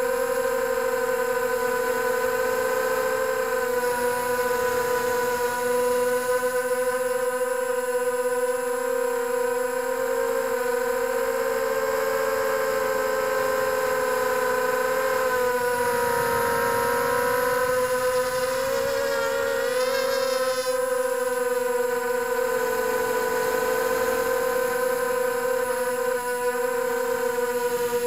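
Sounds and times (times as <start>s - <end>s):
drone motors whining: 0.0s - 9.4s, 10.0s - 28.0s.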